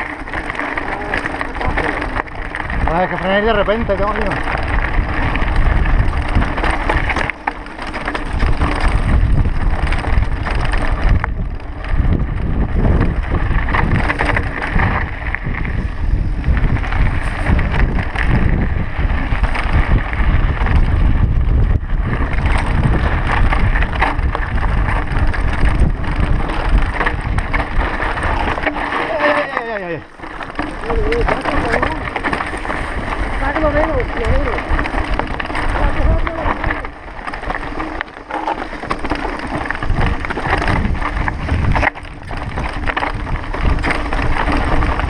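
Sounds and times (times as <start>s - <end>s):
bike rattling over stones: 0.0s - 45.0s
tyres crunching on gravel: 0.0s - 45.0s
wind rumbling on microphone: 0.0s - 45.0s.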